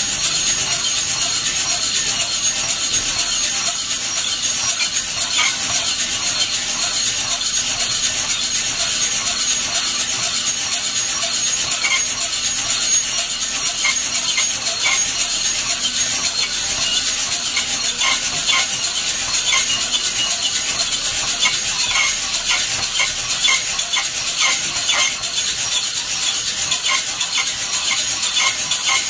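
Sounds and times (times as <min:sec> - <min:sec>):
coffee beans rattling in drum: 0:00.0 - 0:29.0.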